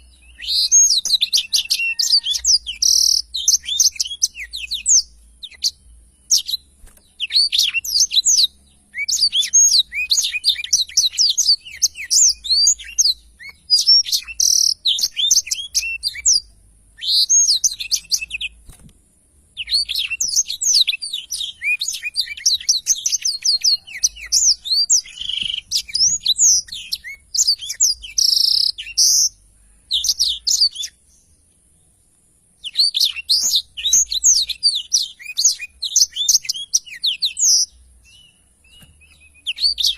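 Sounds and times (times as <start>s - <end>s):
canary twittering song: 0.0s - 18.9s, 19.5s - 31.4s, 32.6s - 39.9s.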